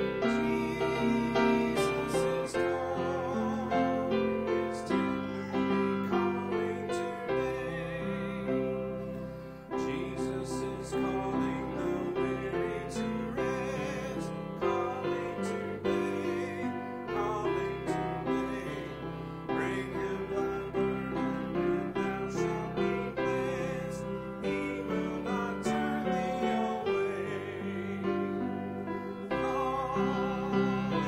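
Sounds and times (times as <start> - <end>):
voices singing a hymn: 0.0 - 31.0.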